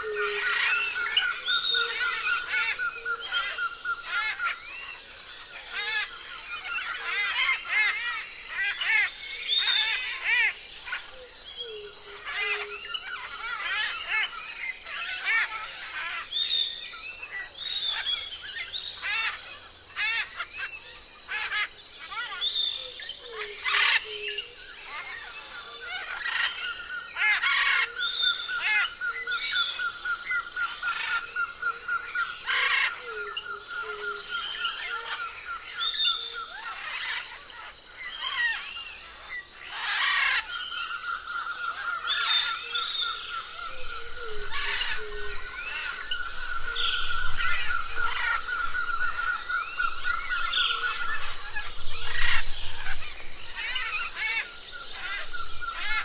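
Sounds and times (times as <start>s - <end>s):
parrots chattering and calling: 0.0s - 16.7s, 17.3s - 56.0s.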